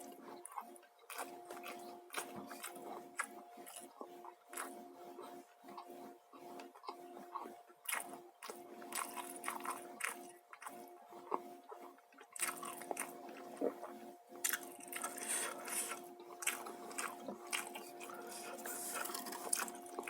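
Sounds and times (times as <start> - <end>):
faint steady hum: 0.0 - 20.0
person chewing crunchy food: 0.0 - 20.0.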